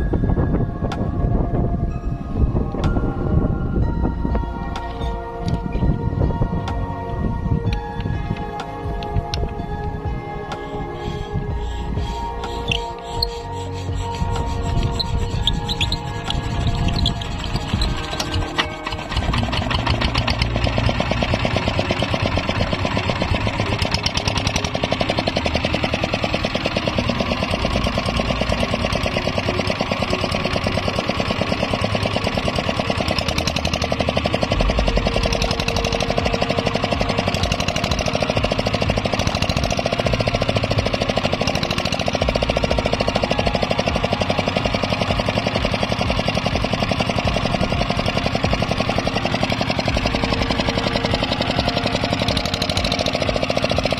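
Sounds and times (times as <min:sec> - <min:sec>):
diesel engine knocking steadily: 0:07.7 - 0:53.9.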